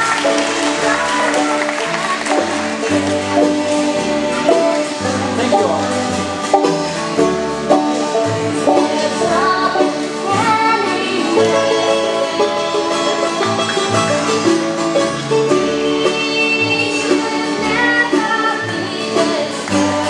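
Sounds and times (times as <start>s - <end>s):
banjo picking: 0.0s - 20.0s
bluegrass band playing: 0.0s - 20.0s.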